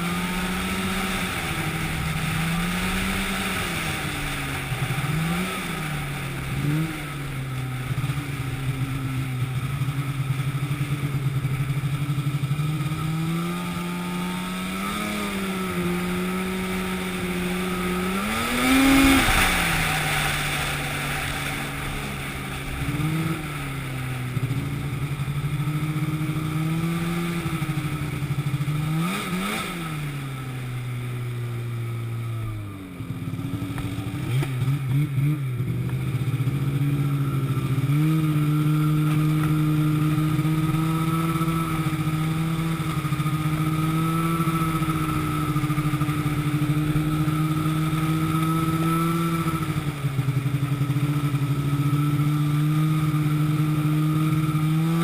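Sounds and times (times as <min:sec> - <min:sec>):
engine revving up and down: 0:00.0 - 0:08.7, 0:12.0 - 0:55.0.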